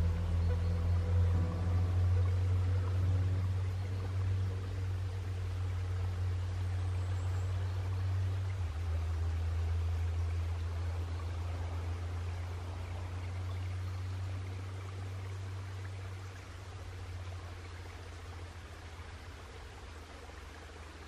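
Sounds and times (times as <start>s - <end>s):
low steady rumble: 0.0s - 21.0s
stream rushing: 0.0s - 21.0s.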